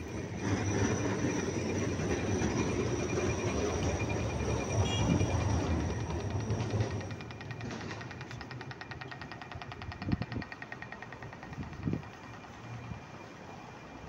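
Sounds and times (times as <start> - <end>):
rumble of vehicles and trams: 0.0 - 14.0.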